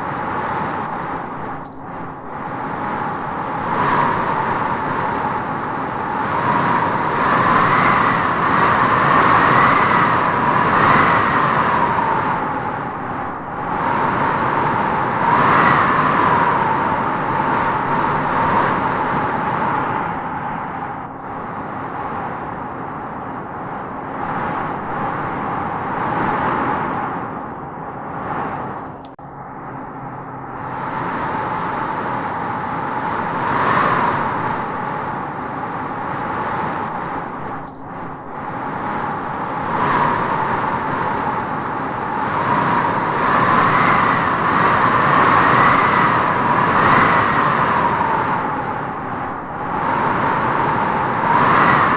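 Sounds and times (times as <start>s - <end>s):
howling wind gusts: 0.0s - 51.9s.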